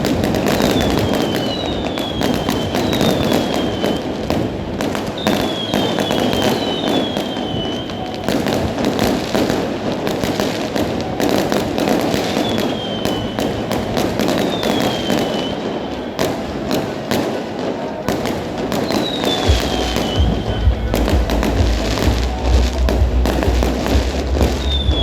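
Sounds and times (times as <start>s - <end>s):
fireworks crackling and popping: 0.0s - 25.0s
fireworks whistles gliding downward: 0.0s - 25.0s.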